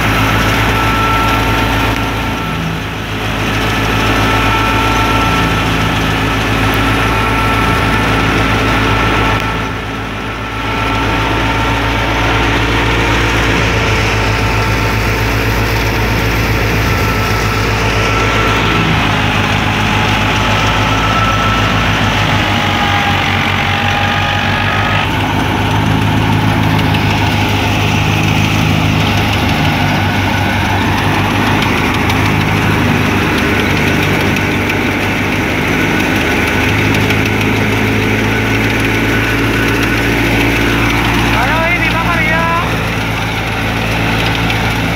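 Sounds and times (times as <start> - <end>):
steady whine: 0.0 - 44.9
thresher drum and blower: 0.0 - 44.9
tractor engine drone: 0.0 - 44.9.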